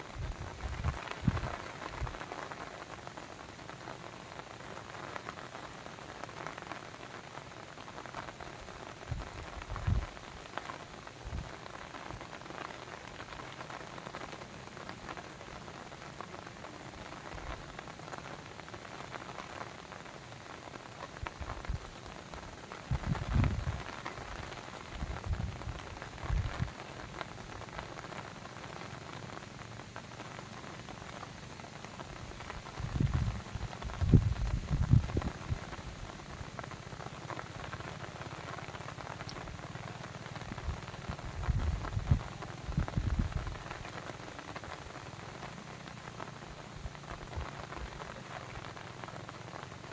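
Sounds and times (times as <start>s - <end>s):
rain pattering on a surface: 0.0s - 49.9s.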